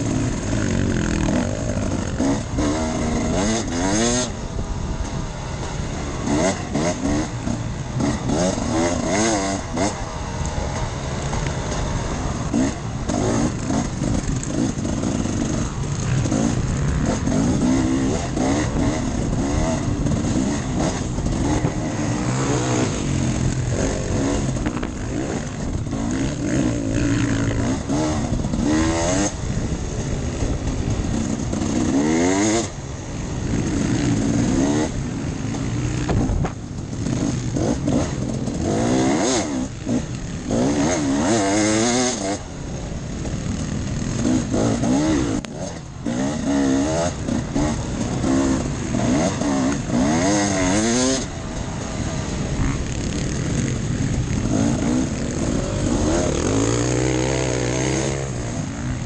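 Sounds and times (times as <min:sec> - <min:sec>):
motorcycle engine revving: 0:00.0 - 0:59.0
steady rushing noise: 0:00.0 - 0:59.0.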